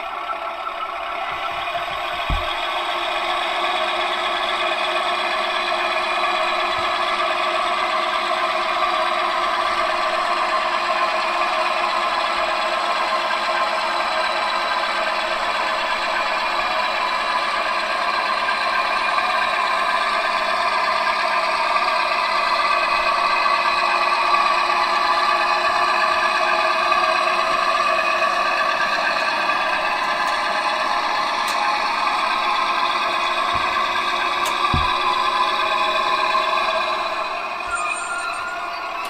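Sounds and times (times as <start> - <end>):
model locomotive diesel engine drone: 0.0 - 39.0.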